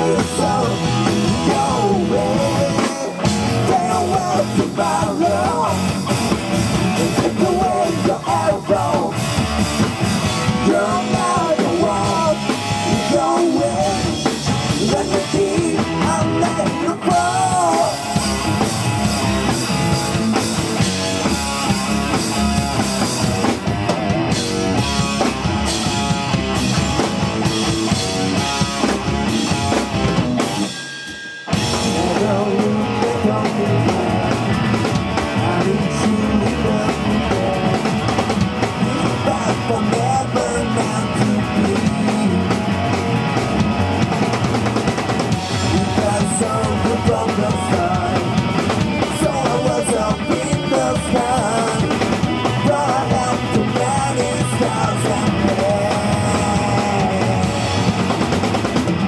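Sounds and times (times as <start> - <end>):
rock band playing loud: 0.0 - 59.0.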